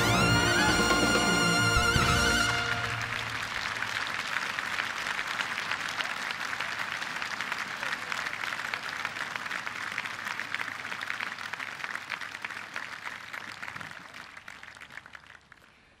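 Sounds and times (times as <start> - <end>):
crowd applauding: 0.0 - 15.8.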